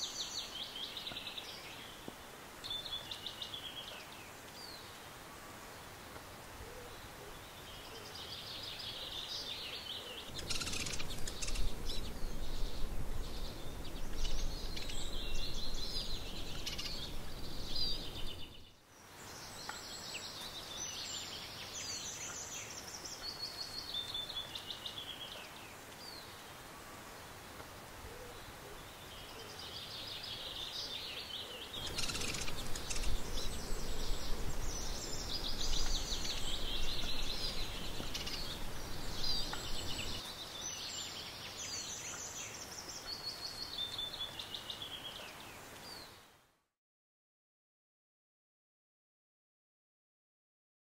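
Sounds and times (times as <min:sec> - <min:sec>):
songbirds singing and chirping: 0:00.0 - 0:46.3.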